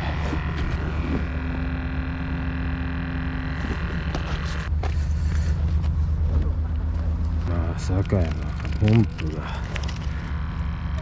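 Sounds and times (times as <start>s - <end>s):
small electric motor whining: 0.0s - 6.0s, 7.1s - 11.0s.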